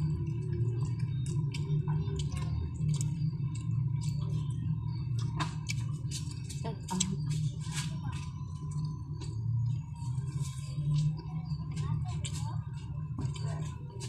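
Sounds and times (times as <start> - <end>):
low hum: 0.0 - 14.0
people chewing and smacking lips: 0.0 - 14.0.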